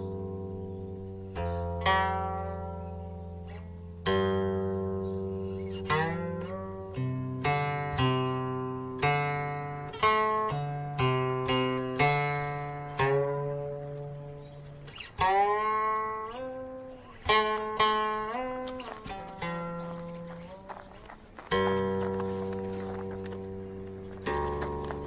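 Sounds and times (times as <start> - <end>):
zither plucked notes: 0.0 - 25.0.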